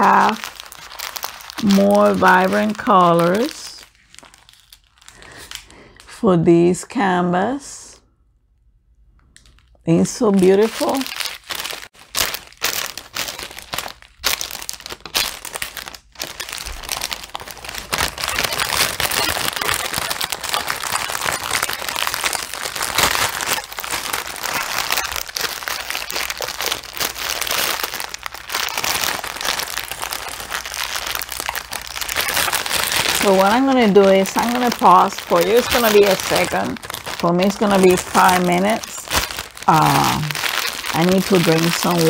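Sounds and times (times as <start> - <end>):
plastic bags crinkling: 0.0 - 6.1, 9.4 - 42.0.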